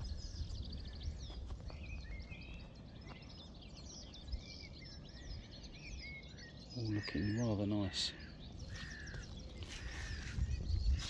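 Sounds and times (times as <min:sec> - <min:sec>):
songbirds chirping and trilling: 0:00.0 - 0:11.0.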